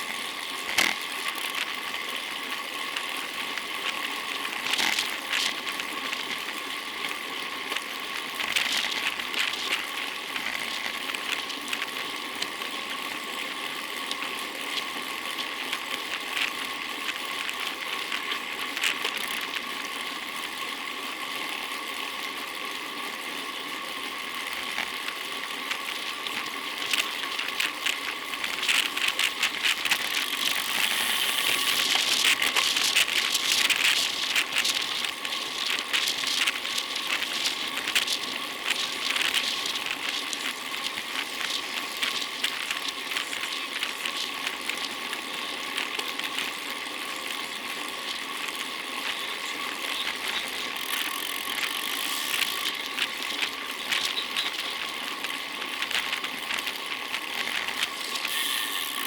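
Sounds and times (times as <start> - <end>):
bicycle rattling and clicking: 0.0 - 59.0
bicycle tyre road noise: 0.0 - 59.0.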